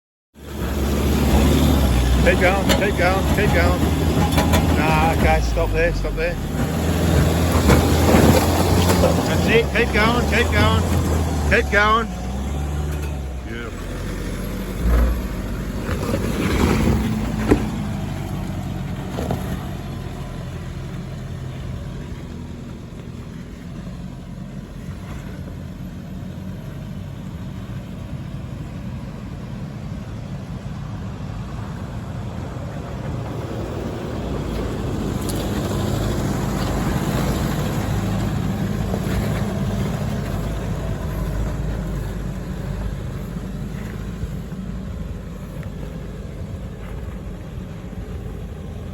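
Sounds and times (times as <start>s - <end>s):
vehicle engine climbing: 0.4s - 48.9s.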